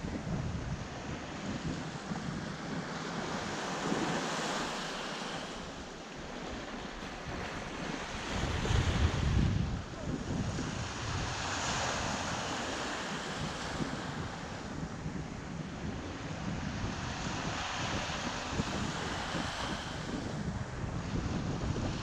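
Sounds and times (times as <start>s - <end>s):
waves washing on sandy shore: 0.0s - 22.0s
wind rumble on microphone: 0.0s - 22.0s.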